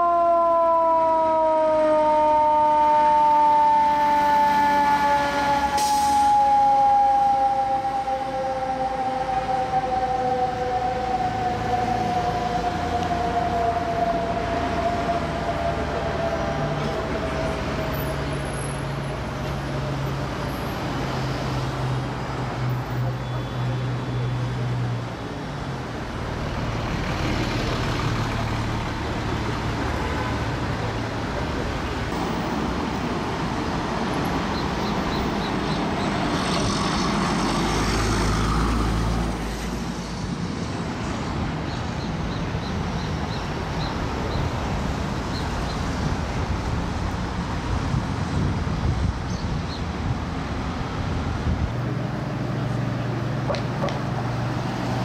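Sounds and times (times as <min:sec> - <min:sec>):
city street traffic: 0:00.0 - 0:55.0
large vehicle passing with deep rumble: 0:04.3 - 0:55.0.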